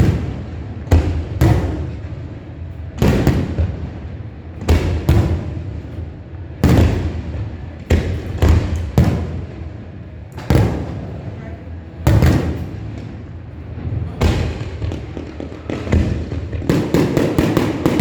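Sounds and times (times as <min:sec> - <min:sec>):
fireworks booming: 0:00.0 - 0:18.0.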